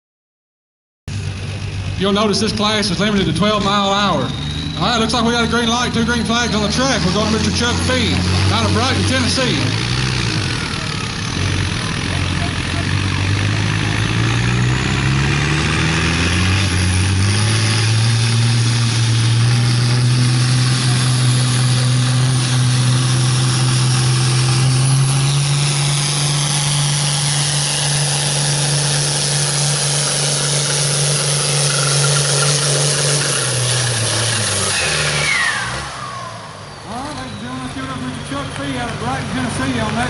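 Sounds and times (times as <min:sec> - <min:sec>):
diesel tractor engine at full throttle: 0:01.1 - 0:40.0.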